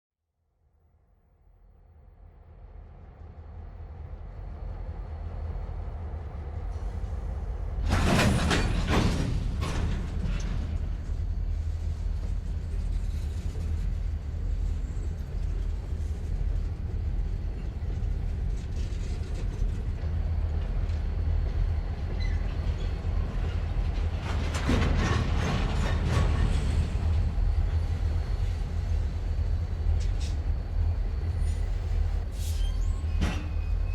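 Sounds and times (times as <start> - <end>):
low rumble of railway cars: 1.3 - 33.9.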